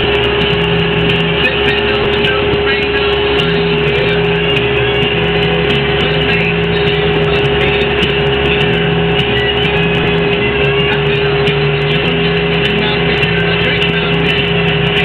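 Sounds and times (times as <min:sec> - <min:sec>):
steady tone: 0:00.0 - 0:15.0
tractor diesel engine running: 0:00.0 - 0:15.0.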